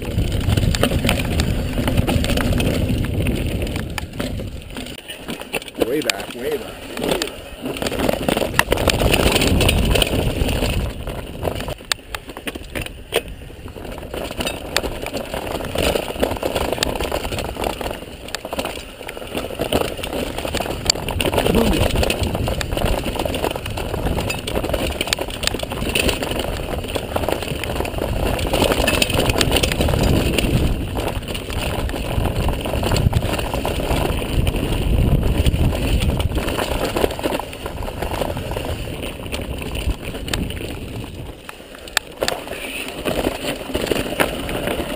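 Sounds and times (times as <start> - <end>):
wind buffeting microphone: 0.0 - 5.0, 6.1 - 41.5
bike clicking and rattling: 0.0 - 44.9
bike tyres rolling over dirt: 0.0 - 44.9.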